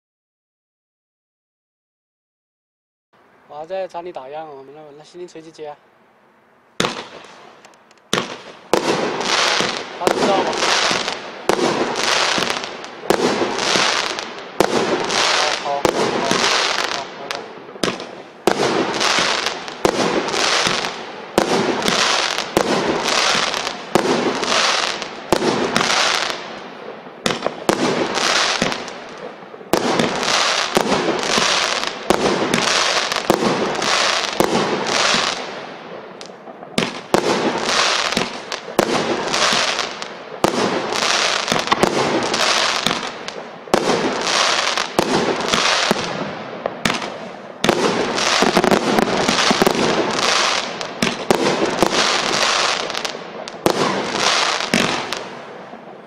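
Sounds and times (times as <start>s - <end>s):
crackling firework hiss: 6.8s - 56.0s
firework bangs: 6.8s - 56.0s.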